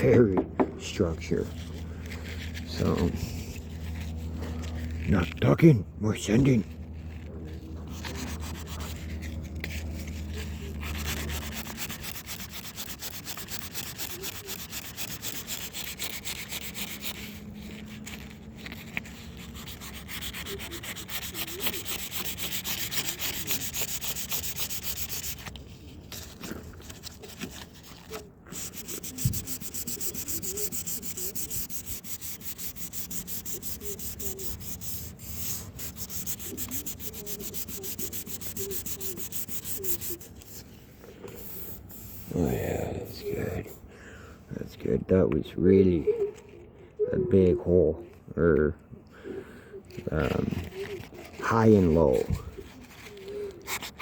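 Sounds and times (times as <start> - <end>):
sandpaper rubbing: 0.8 - 5.5, 6.2 - 43.8, 50.0 - 54.0.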